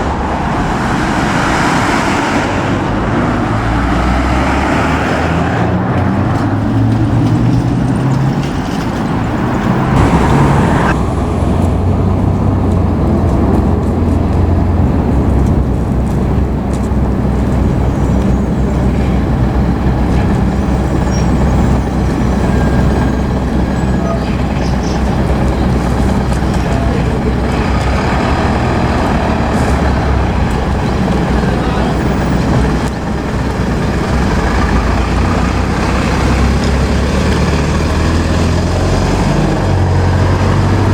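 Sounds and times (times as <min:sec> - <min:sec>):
heavy vehicle engine rumble: 0:00.0 - 0:40.9.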